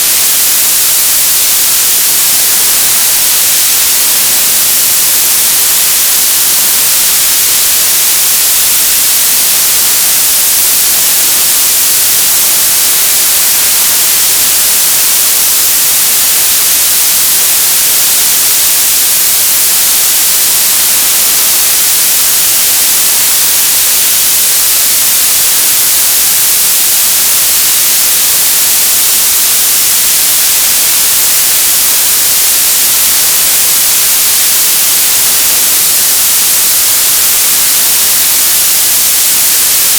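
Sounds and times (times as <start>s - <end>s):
tv static hiss: 0.0s - 39.9s.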